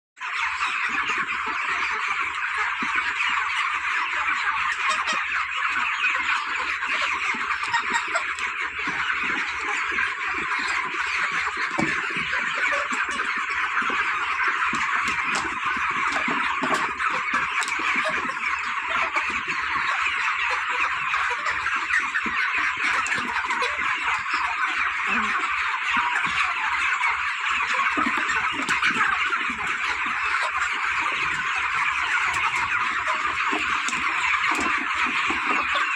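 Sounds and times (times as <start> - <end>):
chickens peeping: 0.2 - 35.9.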